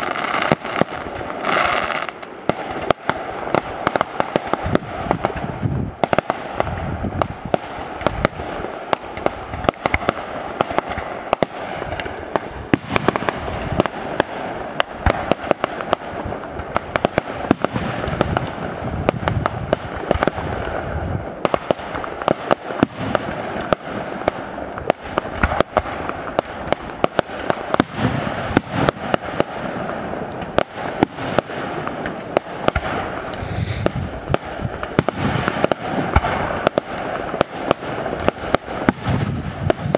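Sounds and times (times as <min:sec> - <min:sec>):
fireworks cracking and popping: 0:00.0 - 0:39.9.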